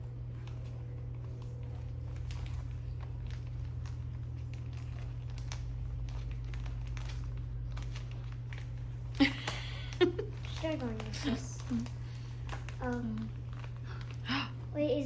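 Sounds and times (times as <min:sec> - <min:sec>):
package crinkling and tapping: 0:00.0 - 0:14.4
steady low hum: 0:00.0 - 0:15.0.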